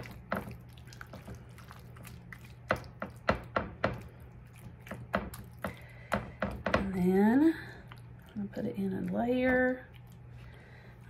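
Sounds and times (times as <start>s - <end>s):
faint low hum: 0.0s - 11.0s
spatula stirring wet mixture: 0.0s - 11.0s.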